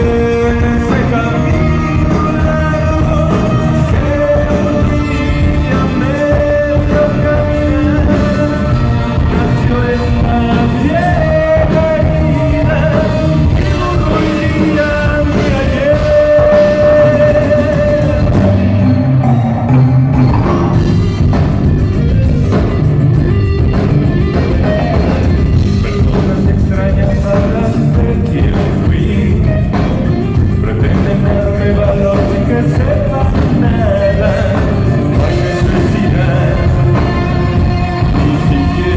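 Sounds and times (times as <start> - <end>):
distorted electric guitar: 0.0 - 38.9
rock song with singing: 0.0 - 38.9.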